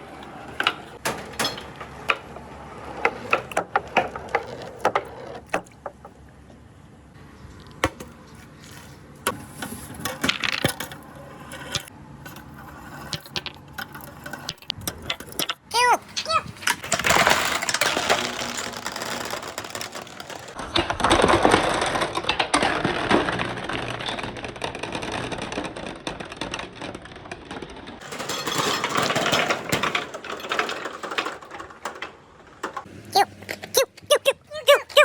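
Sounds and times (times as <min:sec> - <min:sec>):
marbles rolling and clattering: 0:00.0 - 0:06.5, 0:07.6 - 0:35.0.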